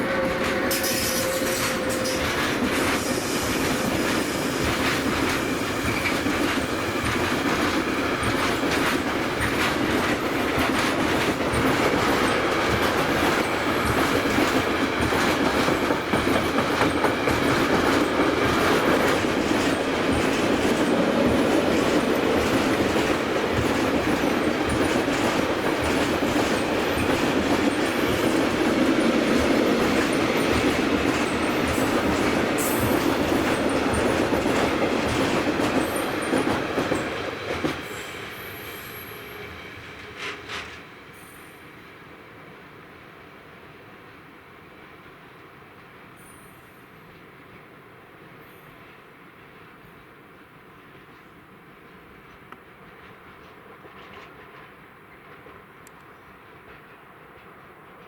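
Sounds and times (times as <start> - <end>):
train wheels clattering on rails: 0.0 - 41.6, 48.5 - 58.0.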